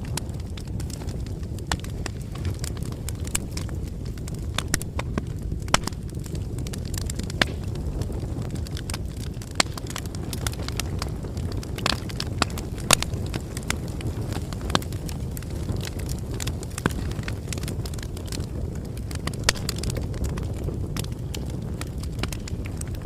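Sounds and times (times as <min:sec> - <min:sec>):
bonfire flames rumbling: 0:00.0 - 0:23.0
fire crackling and popping: 0:00.0 - 0:23.0.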